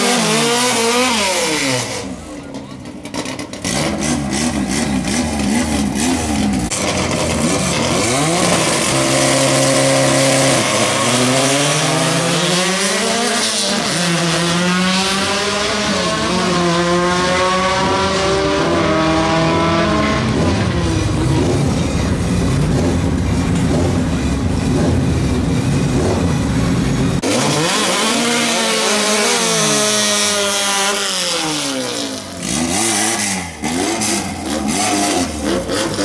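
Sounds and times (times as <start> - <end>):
cars accelerating full throttle: 0.0 - 36.0.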